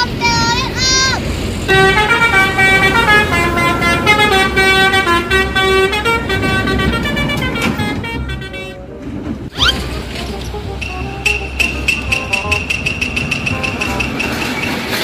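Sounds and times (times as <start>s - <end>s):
bus air horn playing a tune: 1.7s - 9.0s, 9.6s - 14.4s.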